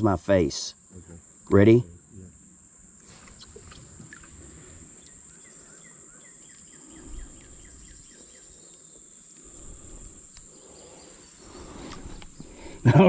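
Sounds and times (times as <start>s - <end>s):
crickets droning: 0.0s - 13.0s
short insect chirps: 0.0s - 13.0s.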